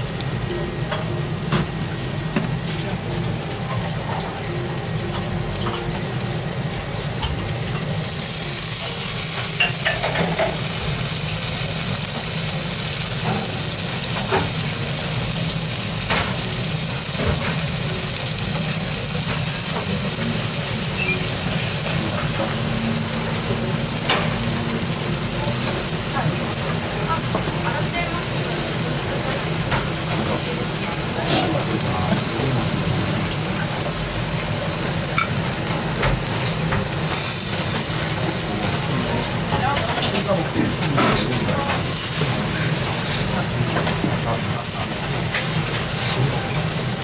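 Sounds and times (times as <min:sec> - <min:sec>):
meat cutlet sizzling on griddle: 0:00.0 - 0:47.0.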